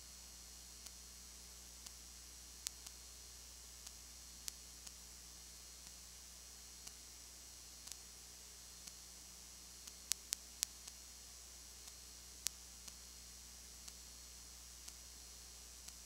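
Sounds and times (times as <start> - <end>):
low electrical hum: 0.0 - 16.0
recording hiss: 0.0 - 16.0.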